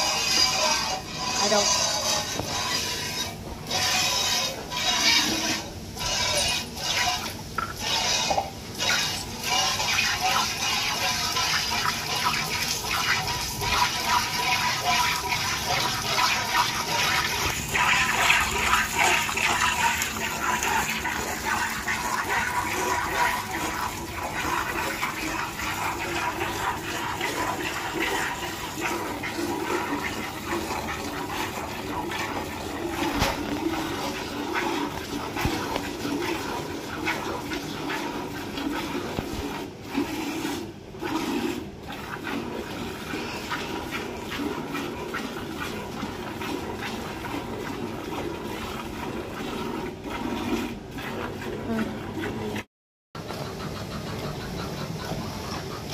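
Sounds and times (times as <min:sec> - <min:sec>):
milk squirting into steel pail: 0:00.0 - 0:52.6.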